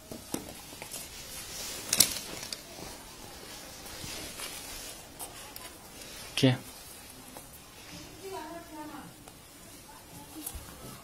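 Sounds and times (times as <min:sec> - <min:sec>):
clothing rustling: 0:00.0 - 0:11.0.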